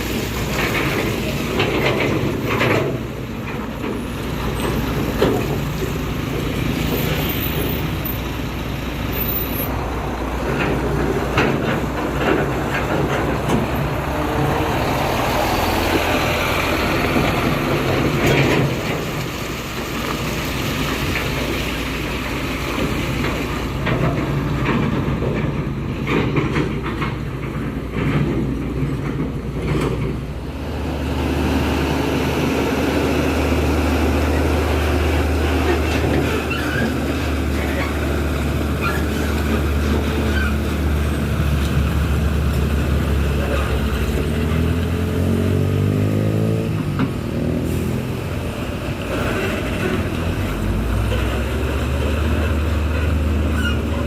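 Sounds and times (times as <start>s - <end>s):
heavy diesel engines under load: 0.0s - 54.0s.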